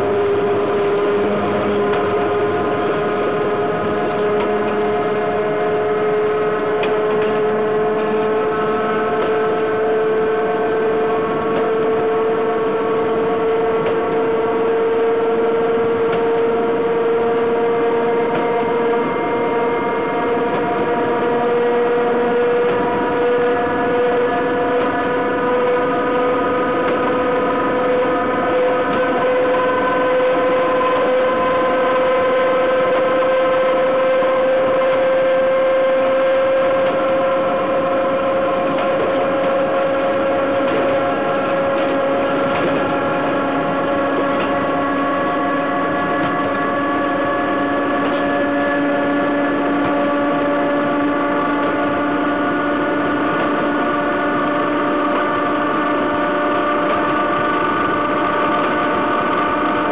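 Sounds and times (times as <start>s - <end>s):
rising whine: 0.0s - 59.9s
train wheels rumbling on rails: 0.0s - 59.9s.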